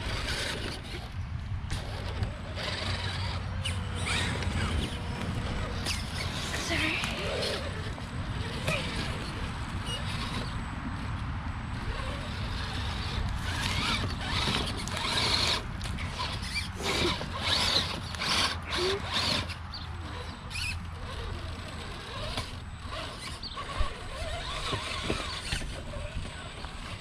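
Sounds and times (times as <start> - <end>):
toy car motor whirring: 0.0 - 27.0
tyres scraping on stones: 0.0 - 27.0.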